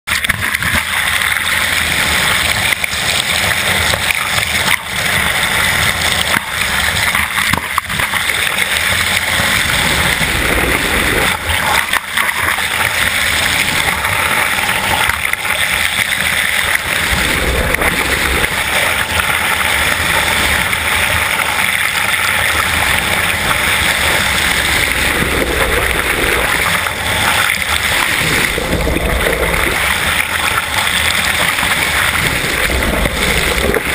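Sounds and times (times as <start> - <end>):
water rushing hiss: 0.2 - 33.9.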